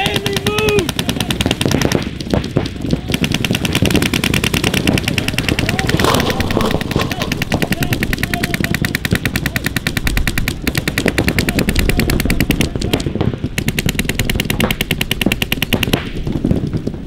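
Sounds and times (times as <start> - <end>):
paintball marker firing rapidly: 0.0 - 17.0.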